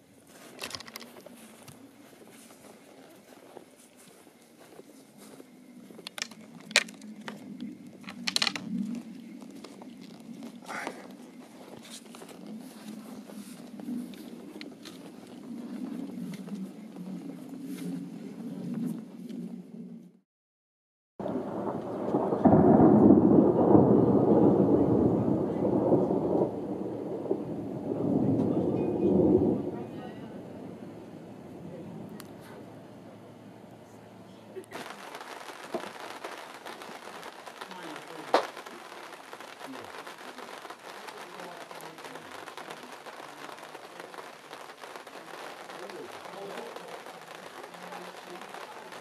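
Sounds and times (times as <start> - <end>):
rain pattering: 0.0 - 20.2, 21.2 - 49.0
faint voices: 0.3 - 19.8, 23.4 - 49.0
thunder rumbling: 6.1 - 20.0, 21.2 - 49.0.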